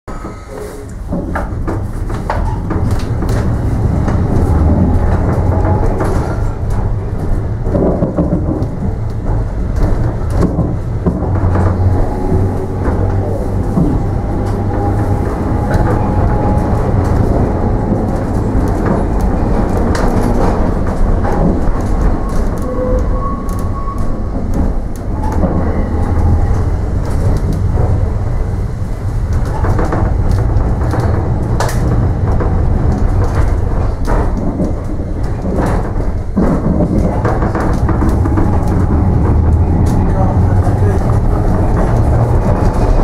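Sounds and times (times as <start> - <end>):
tram rumbling along track: 0.1 - 43.0
clicks and knocks: 0.2 - 43.0.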